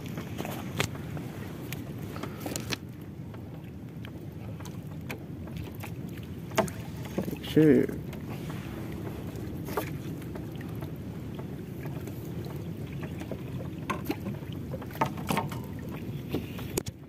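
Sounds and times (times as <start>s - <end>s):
water around boat: 0.0s - 17.0s
wind: 0.0s - 17.0s.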